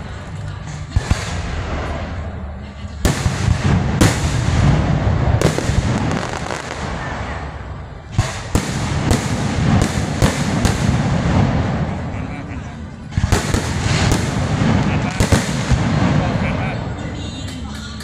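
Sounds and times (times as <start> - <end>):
low rumble: 0.0 - 18.0
fireworks bangs: 0.6 - 18.0.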